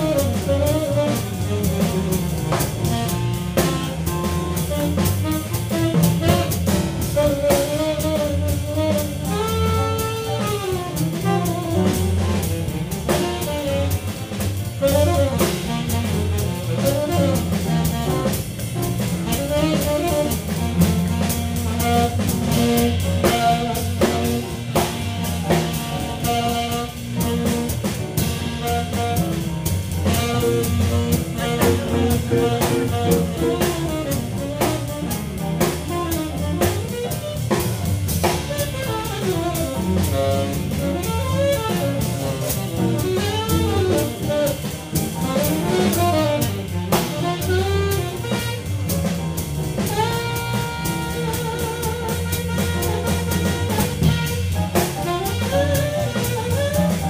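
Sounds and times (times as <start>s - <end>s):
jazz band playing: 0.0s - 57.0s
tenor saxophone melody: 0.0s - 57.0s.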